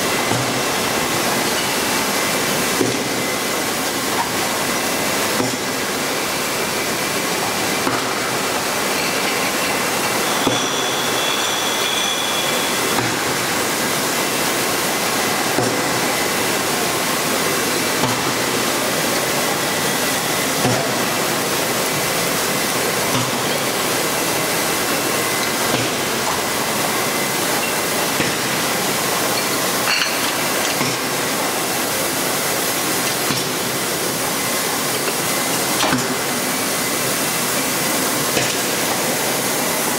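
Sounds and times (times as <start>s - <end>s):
machinery hiss and clatter: 0.0s - 39.9s.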